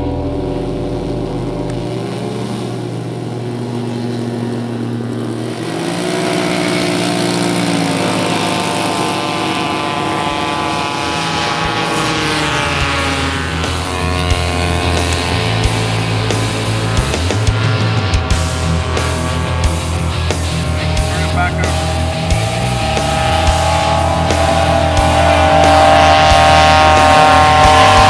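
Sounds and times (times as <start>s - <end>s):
model airplane engine: 0.0s - 28.0s.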